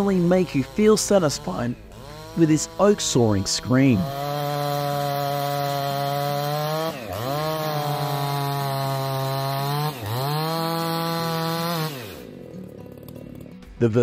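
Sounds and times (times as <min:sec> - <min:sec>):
chainsaw sawing through wood: 0:00.0 - 0:13.9.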